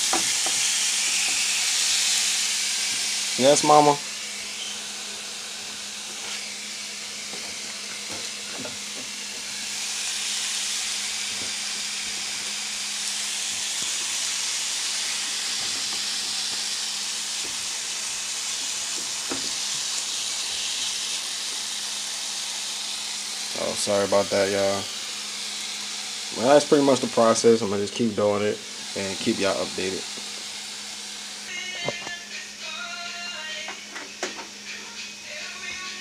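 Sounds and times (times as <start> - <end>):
chicken sizzling in frying pan: 0.0 - 31.5.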